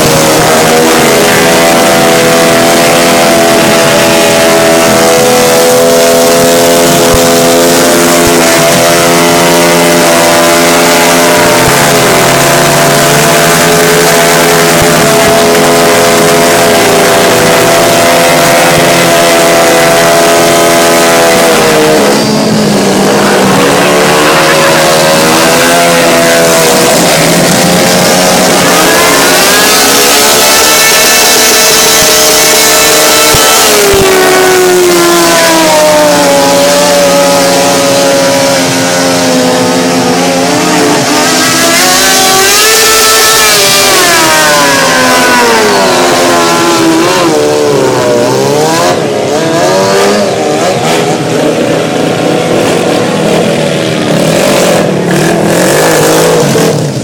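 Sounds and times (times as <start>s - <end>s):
engines revving loudly: 0.0s - 57.0s.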